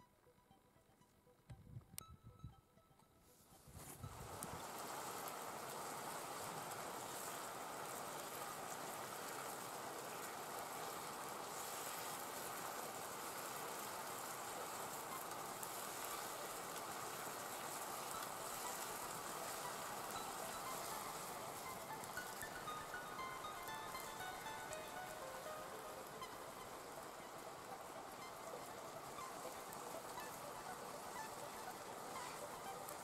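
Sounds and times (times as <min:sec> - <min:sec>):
mushrooms sizzling in a pan: 0:04.1 - 0:33.0.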